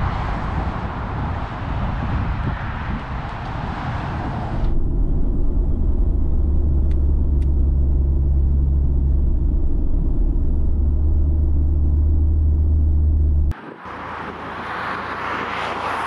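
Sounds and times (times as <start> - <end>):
engine and road noise rumble: 0.0 - 16.0.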